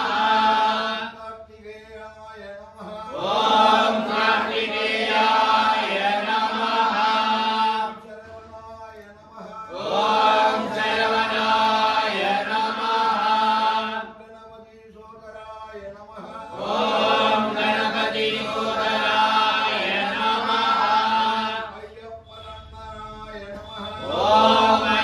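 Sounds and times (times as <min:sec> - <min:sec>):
men chanting in unison: 0:00.0 - 0:01.5, 0:02.4 - 0:14.6, 0:15.4 - 0:25.0.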